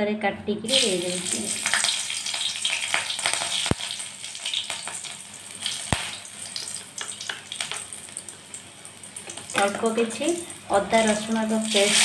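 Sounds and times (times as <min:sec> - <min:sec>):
chilli sizzling in hot oil: 0:00.6 - 0:12.0.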